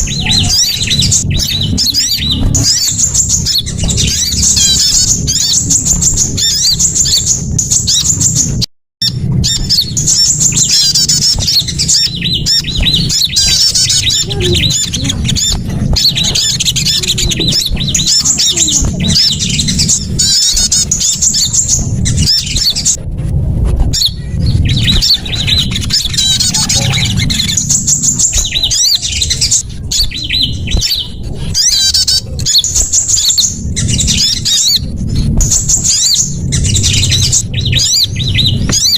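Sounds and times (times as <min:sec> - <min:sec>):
low hum: 0:00.0 - 0:38.9
songbirds chirping and trilling: 0:00.0 - 0:38.9.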